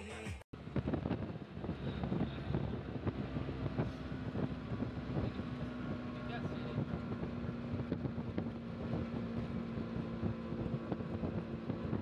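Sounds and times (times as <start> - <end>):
auto-rickshaw engine hum: 0.6 - 12.0
wind on microphone: 0.6 - 12.0.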